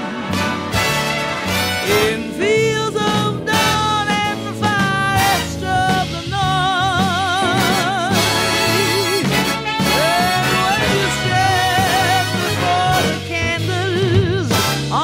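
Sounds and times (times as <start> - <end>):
bass line: 0.0 - 15.0
orchestral jazz lead line: 0.0 - 15.0.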